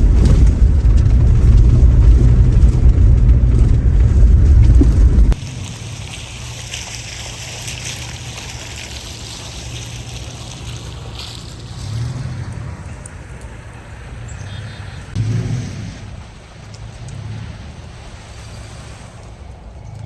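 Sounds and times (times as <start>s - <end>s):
truck engine humming: 0.0s - 20.0s
tyre and road noise: 0.0s - 20.0s.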